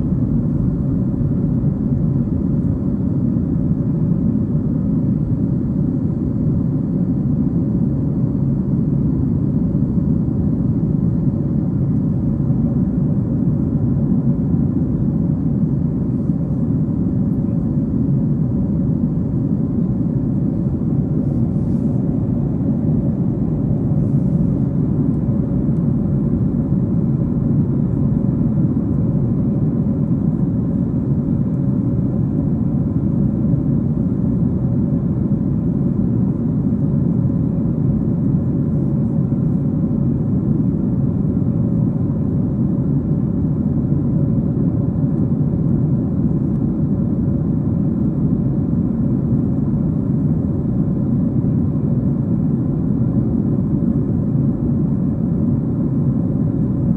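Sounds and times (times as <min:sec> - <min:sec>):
airplane cabin roar: 0:00.0 - 0:56.9
faint steady hum: 0:00.0 - 0:56.9.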